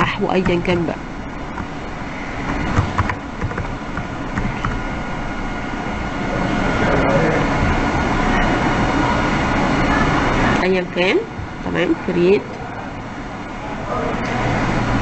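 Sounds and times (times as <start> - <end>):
background rumble and hiss: 0.0 - 15.0.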